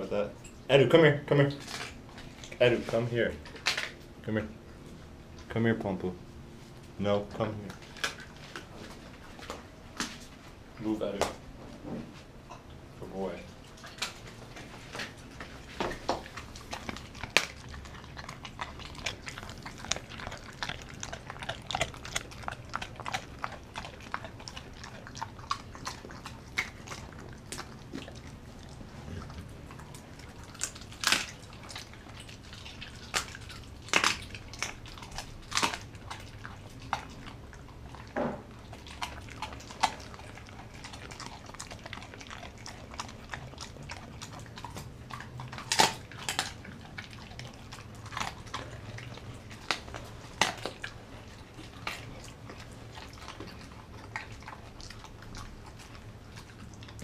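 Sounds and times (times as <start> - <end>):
dog chewing meat: 0.0 - 11.6, 12.2 - 57.0.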